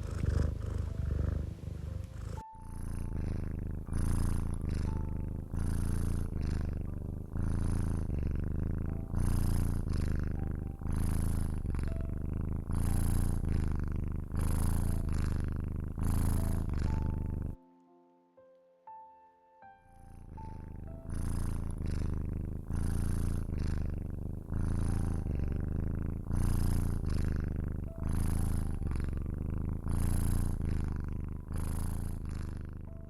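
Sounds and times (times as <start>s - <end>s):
cat purring: 0.0s - 17.7s, 19.6s - 33.0s.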